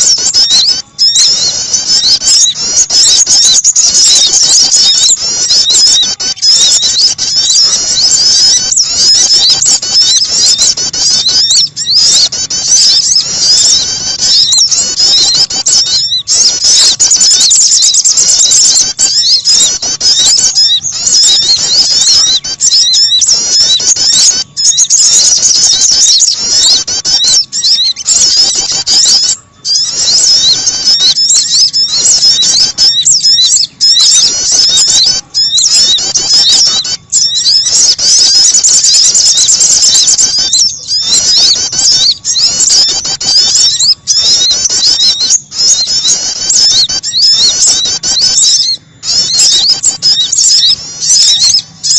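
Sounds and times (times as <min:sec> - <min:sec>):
rapid high-pitched bird chirps: 0:00.0 - 0:51.9.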